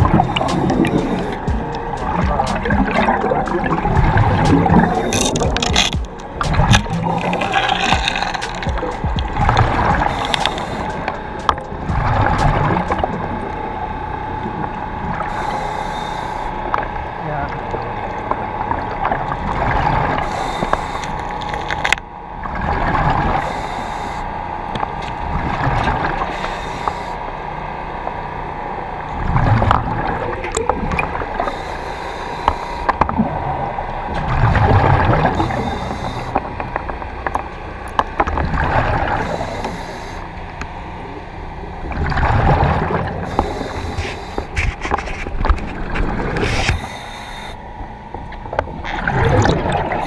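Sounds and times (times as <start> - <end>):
diver breathing with bubbles: 0.0 - 13.5, 15.0 - 16.9, 19.0 - 22.0, 22.6 - 24.3, 25.2 - 27.4, 29.2 - 36.9, 38.2 - 41.2, 41.8 - 47.8, 48.5 - 50.0
air supply hiss and hum: 0.0 - 50.0.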